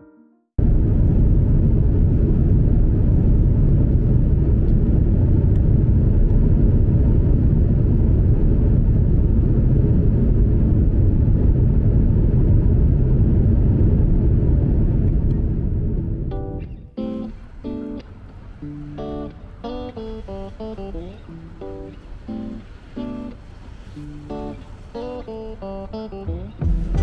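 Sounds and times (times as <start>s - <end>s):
vehicle rumbling in motion: 0.6s - 16.4s, 17.2s - 27.0s.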